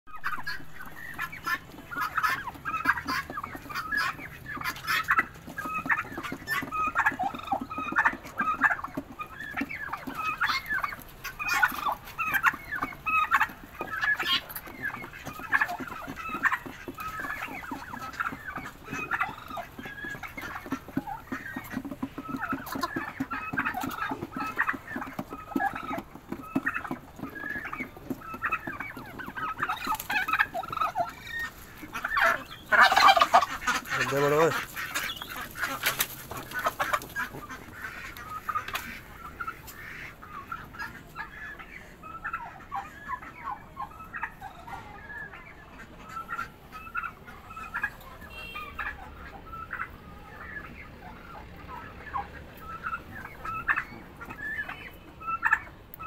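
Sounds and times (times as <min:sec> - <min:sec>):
turkeys and poultry calling: 0:00.1 - 0:56.0.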